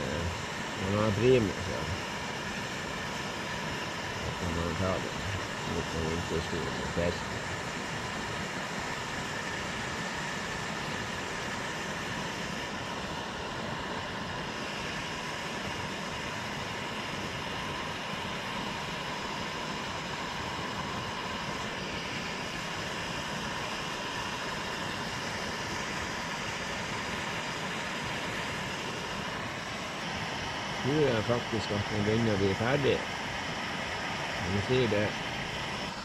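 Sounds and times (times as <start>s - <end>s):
camping stove burner hissing: 0.0s - 36.0s.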